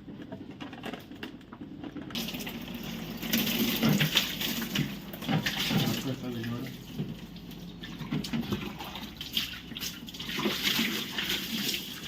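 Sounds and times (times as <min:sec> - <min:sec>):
water splashing and running: 0:02.2 - 0:12.0.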